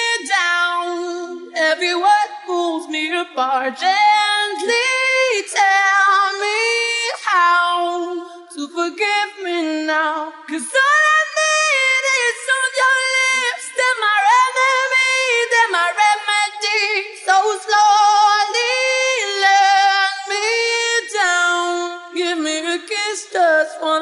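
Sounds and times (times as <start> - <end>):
man singing a cappella: 0.0 - 24.0.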